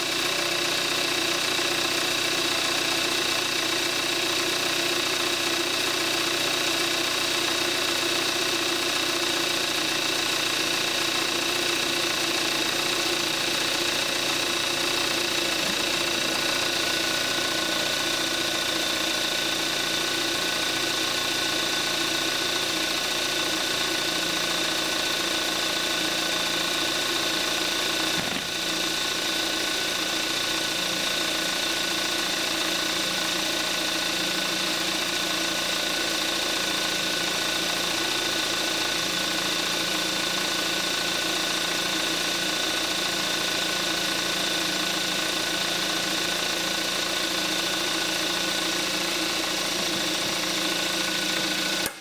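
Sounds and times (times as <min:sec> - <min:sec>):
car engine idling: 0:00.0 - 0:51.8.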